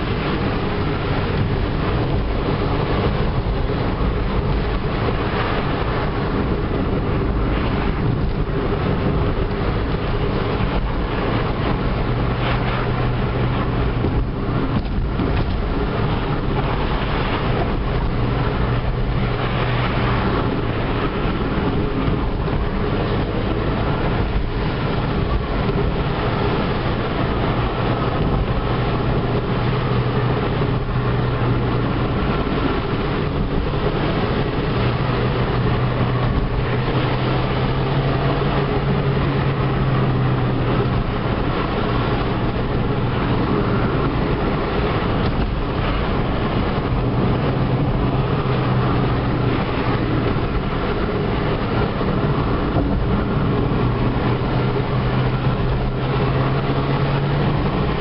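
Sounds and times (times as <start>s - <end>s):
car engine running: 0.0s - 58.0s
tyre and road noise: 0.0s - 58.0s.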